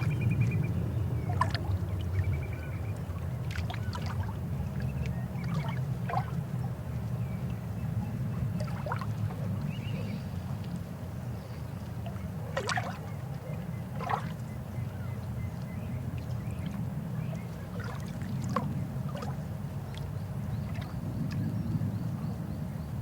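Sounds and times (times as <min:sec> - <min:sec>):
water splashes and gurgles: 0:00.0 - 0:22.3.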